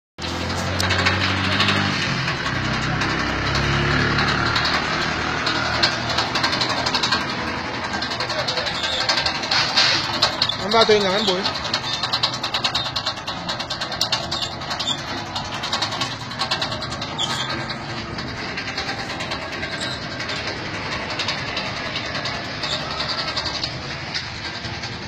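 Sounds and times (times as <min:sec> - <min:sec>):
forge fire rushing and crackling: 0:00.2 - 0:25.0.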